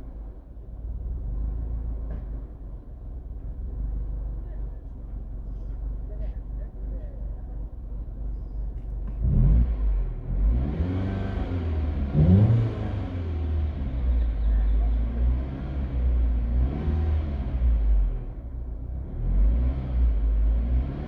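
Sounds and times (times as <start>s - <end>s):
car engine idling unevenly: 0.0s - 10.4s, 11.5s - 16.6s, 17.4s - 19.1s.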